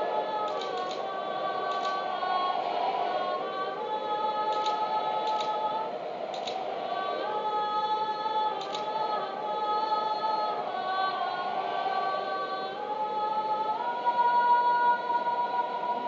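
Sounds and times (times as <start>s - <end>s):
slow sung vocal music: 0.0s - 16.0s.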